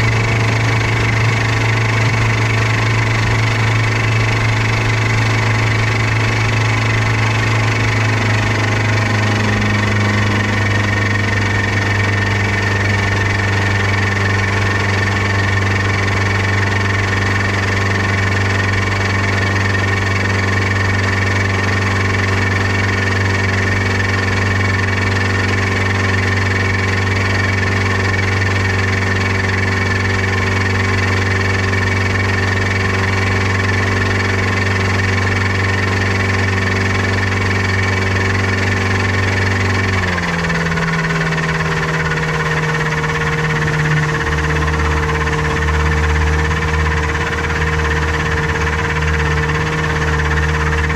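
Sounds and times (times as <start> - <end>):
outboard motor running: 0.0 - 50.9.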